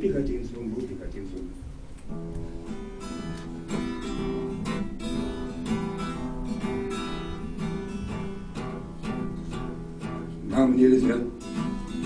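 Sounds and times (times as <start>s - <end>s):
acoustic guitar strumming: 2.1s - 12.0s.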